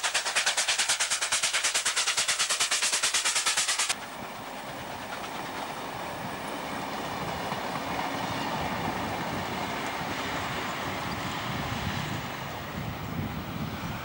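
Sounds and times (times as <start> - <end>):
steam locomotive exhaust beats: 0.0 - 13.9
distant train rumble: 0.0 - 14.0.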